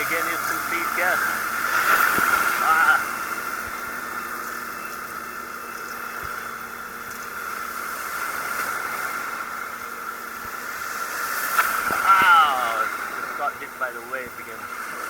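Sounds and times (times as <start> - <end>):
muffled surf hiss: 0.0 - 15.0.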